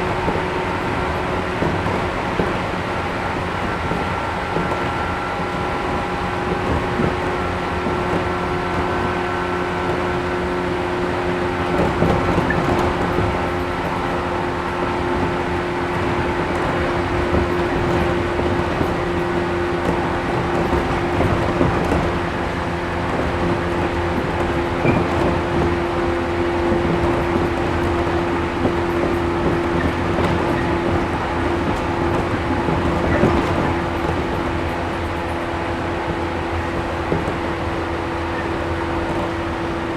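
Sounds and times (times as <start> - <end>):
train wheel and rail noise: 0.0 - 39.9.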